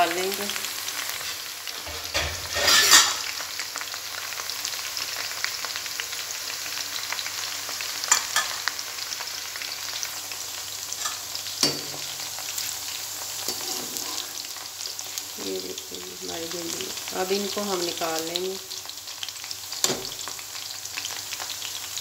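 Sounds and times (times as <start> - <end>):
okra deep-frying in oil: 0.0 - 22.0.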